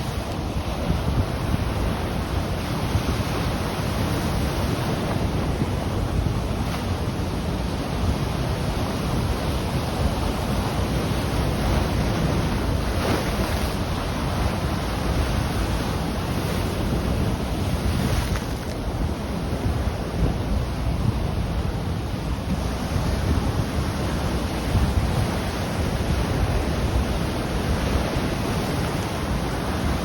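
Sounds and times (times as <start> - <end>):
ocean waves breaking on shore: 0.0 - 30.0
wind buffeting microphone: 0.0 - 30.0.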